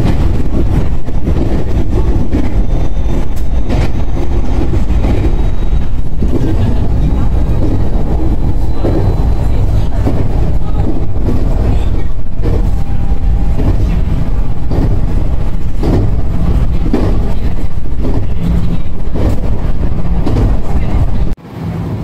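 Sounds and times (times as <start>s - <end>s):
train motors and wheels rumbling: 0.0s - 22.0s.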